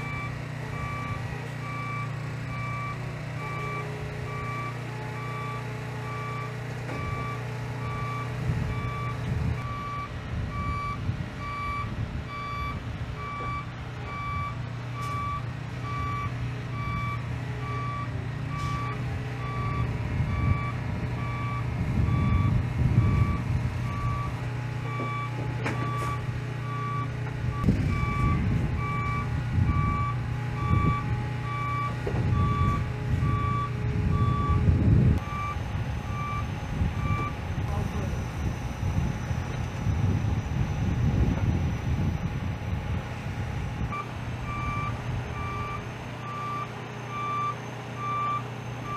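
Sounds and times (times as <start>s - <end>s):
diesel truck engine running: 0.0s - 48.9s
truck reversing alarm beeps: 0.0s - 48.9s.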